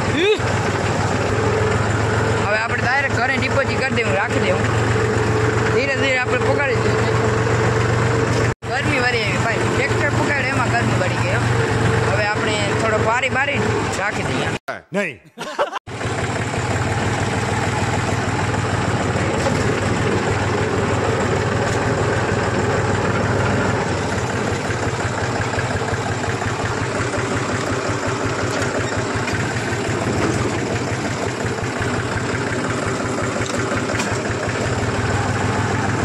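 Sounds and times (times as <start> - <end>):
tractor engine running: 0.0 - 14.6, 15.9 - 36.0.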